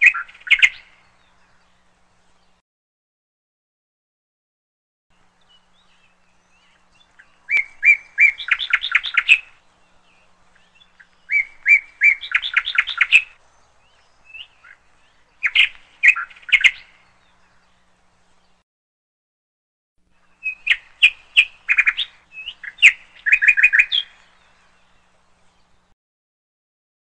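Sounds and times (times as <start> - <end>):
songbird singing: 0.0 - 2.6, 5.1 - 18.6, 20.0 - 26.0.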